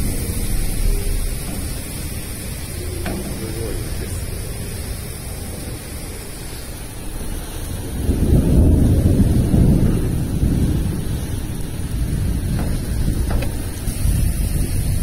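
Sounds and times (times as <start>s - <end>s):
heavy rain on a roof: 0.0s - 15.0s
thunder rumbling: 0.0s - 15.0s.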